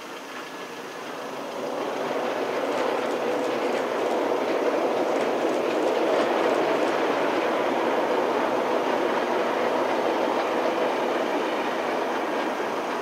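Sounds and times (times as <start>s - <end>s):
train wheels clicking over rail joints: 0.0s - 13.0s.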